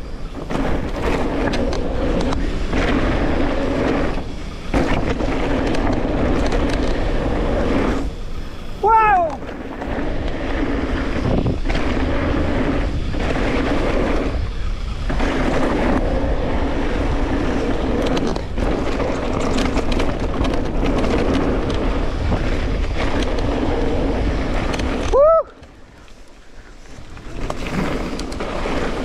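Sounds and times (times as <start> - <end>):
bike tyres rolling rumble: 0.0 - 29.0
wind buffeting microphone: 0.0 - 29.0.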